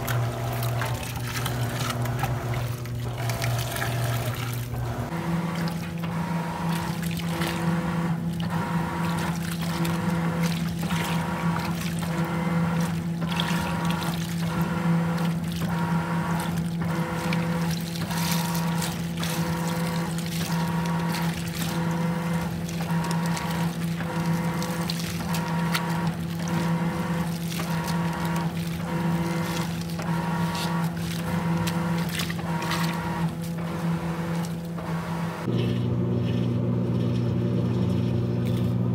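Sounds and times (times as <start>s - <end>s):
water sloshing in drum: 0.0s - 35.6s
washing machine motor hum: 0.0s - 38.9s.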